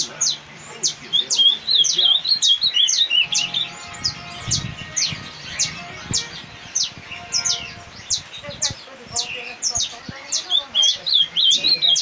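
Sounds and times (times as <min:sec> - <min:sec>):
canaries singing: 0:00.0 - 0:12.0.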